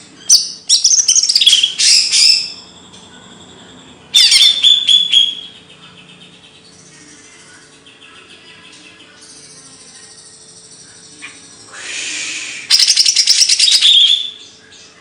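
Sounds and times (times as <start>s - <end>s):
songbird chattering: 0.0s - 11.7s, 12.7s - 14.5s.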